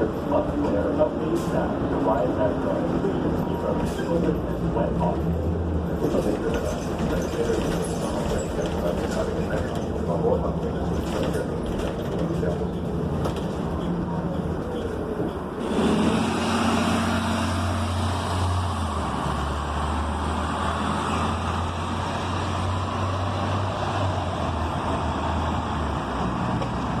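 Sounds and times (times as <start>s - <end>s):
bus engine humming: 0.0s - 27.0s.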